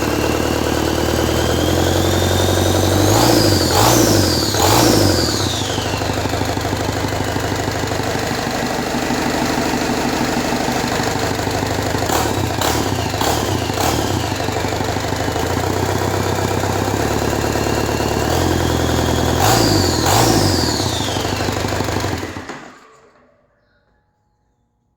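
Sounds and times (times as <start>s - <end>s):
diesel engine revving: 0.0s - 22.8s.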